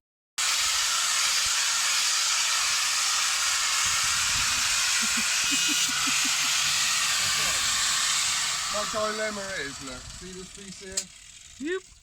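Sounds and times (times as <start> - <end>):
loud steady hiss: 0.4 - 11.6.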